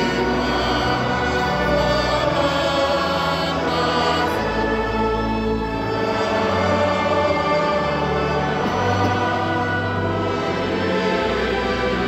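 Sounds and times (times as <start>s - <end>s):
choir and congregation singing hymn: 0.0s - 12.0s
pipe organ: 0.0s - 12.0s.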